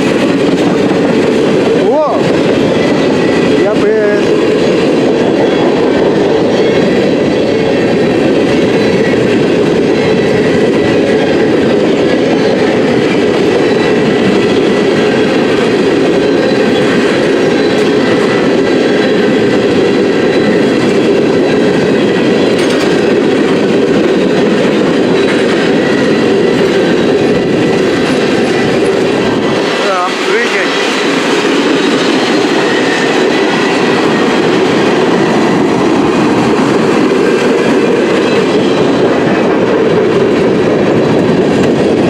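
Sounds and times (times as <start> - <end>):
freight train wheels rumbling on rail: 0.0 - 42.0.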